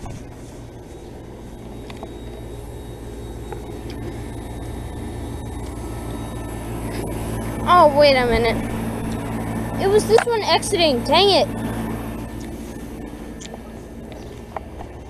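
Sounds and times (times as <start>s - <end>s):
heat pump humming: 0.0s - 15.0s.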